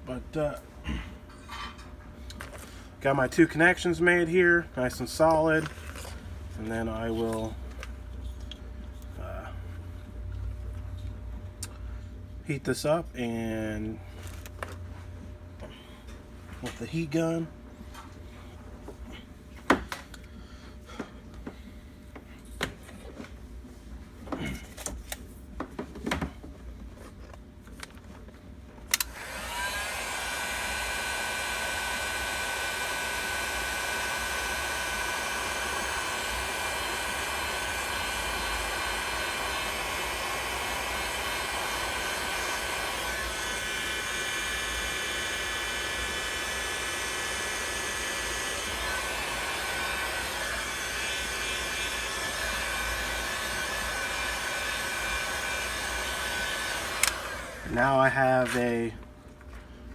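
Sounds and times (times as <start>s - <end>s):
heat gun fan whining: 0.0s - 14.8s, 15.6s - 17.5s, 27.2s - 59.7s.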